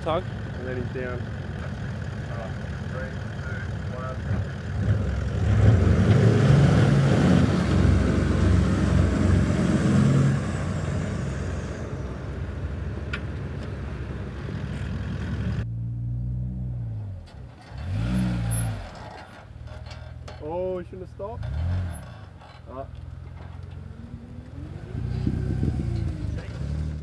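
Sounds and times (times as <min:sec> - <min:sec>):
engines revving under load: 0:00.0 - 0:20.2, 0:20.8 - 0:27.0.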